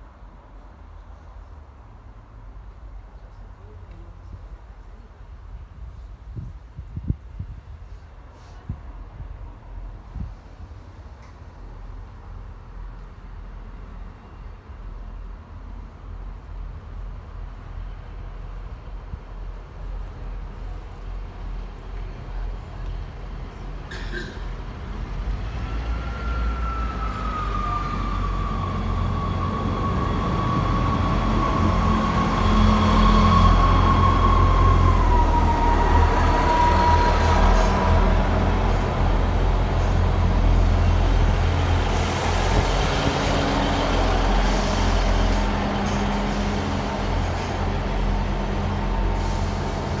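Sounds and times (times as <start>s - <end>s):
deep diesel train rumble: 0.0s - 50.0s.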